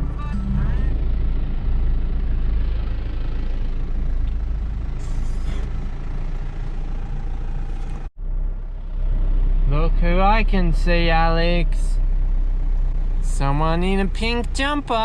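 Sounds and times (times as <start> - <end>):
farm vehicle engine rumble: 0.0 - 15.0
low steady hum: 0.0 - 15.0.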